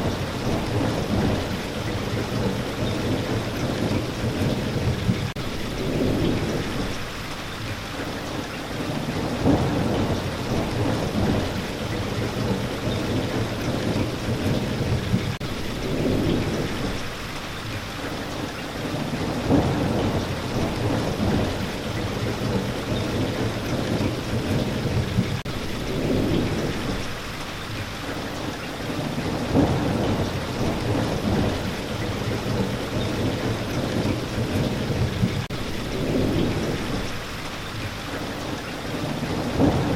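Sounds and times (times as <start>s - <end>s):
low thunder rumbles: 0.0s - 7.2s, 8.6s - 17.8s, 18.7s - 28.3s, 28.9s - 39.9s
steady rain: 0.0s - 39.9s.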